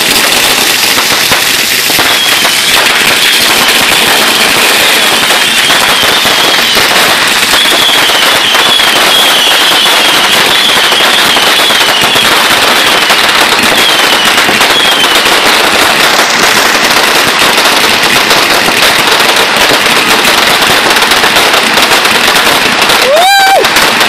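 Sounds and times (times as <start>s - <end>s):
falling firework whistles: 0.0s - 17.8s, 20.3s - 24.0s
fireworks popping and crackling: 0.0s - 24.0s.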